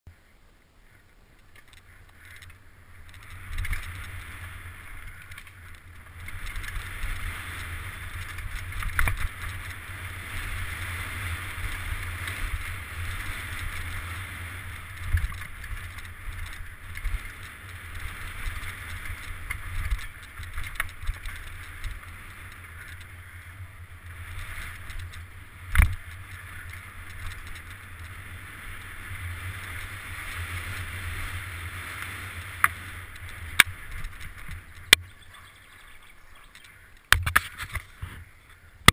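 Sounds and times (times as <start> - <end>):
bike knocking and rattling: 0.9 - 38.9.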